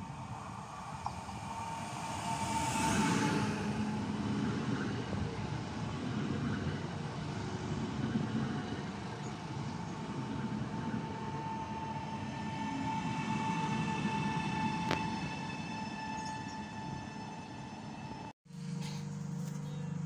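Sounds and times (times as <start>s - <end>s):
train high whine: 0.0s - 20.0s.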